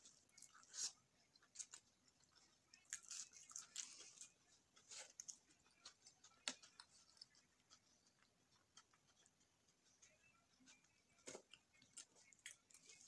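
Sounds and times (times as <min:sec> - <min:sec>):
wet chewing and mouth clicks: 0:00.0 - 0:13.0.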